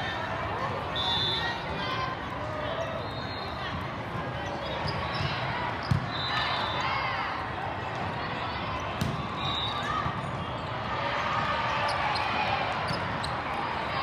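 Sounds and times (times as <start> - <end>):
din of voices in a gym: 0.0 - 14.0.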